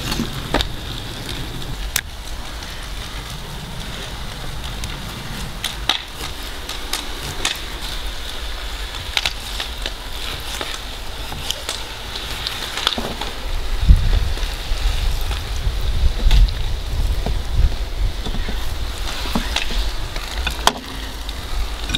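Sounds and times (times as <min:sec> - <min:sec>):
steady hiss: 0:00.0 - 0:21.9.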